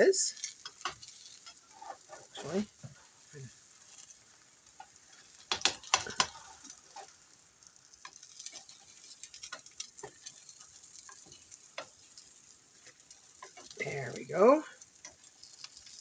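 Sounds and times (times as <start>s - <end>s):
omelette sizzling in butter: 0.0s - 16.0s
spatula clacking against frying pan: 0.4s - 2.1s, 3.6s - 13.8s, 14.8s - 16.0s.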